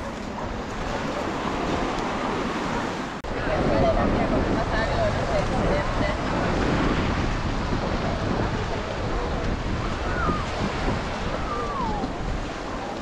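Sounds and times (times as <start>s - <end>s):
faint voices: 0.0s - 13.0s
surf washing onto beach: 0.0s - 13.0s
wind buffeting microphone: 0.0s - 13.0s.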